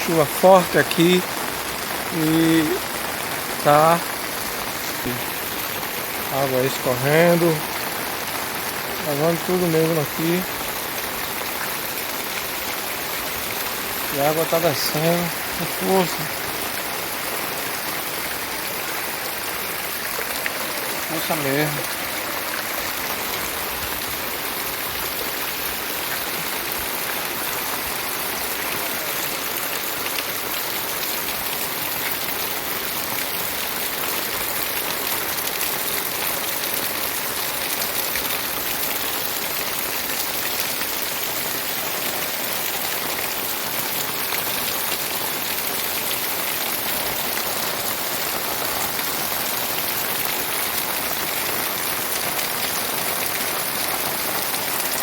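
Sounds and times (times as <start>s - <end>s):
heavy rain pattering: 0.0s - 55.0s
runoff water flowing: 0.0s - 55.0s.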